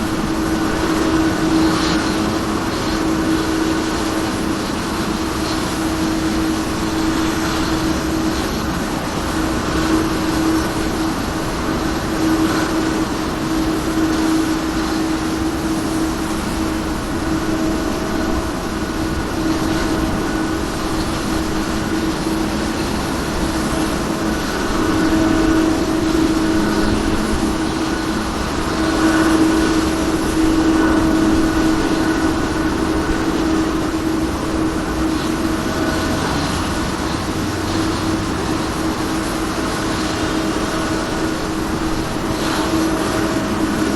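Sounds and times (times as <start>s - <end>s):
high jet engine whine: 0.0s - 43.9s
jet engine roar: 0.0s - 43.9s.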